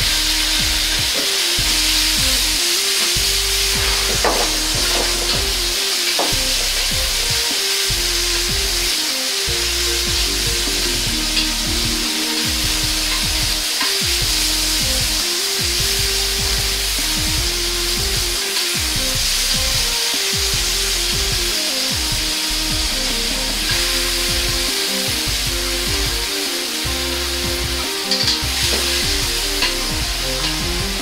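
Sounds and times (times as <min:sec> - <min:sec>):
ladle scraping wok: 0:00.0 - 0:31.0
tomatoes sizzling in wok: 0:00.0 - 0:31.0.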